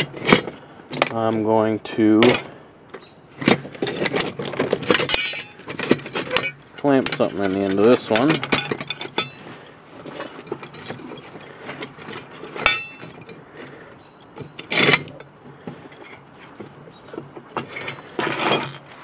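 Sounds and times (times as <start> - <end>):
metal clamps being handled: 0.0 - 1.4, 2.2 - 19.0
metal parts rattling and clattering: 0.0 - 1.4, 2.2 - 19.0.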